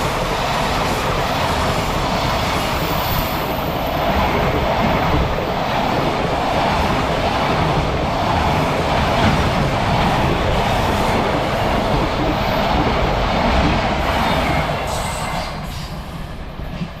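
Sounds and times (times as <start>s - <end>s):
freight train rolling on rails: 0.0s - 17.0s.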